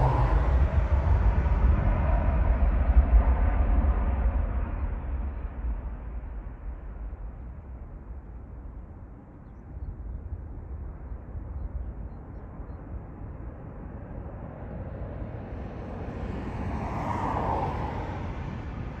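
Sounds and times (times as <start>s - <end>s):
jet engine rumble at take-off: 0.0s - 19.0s.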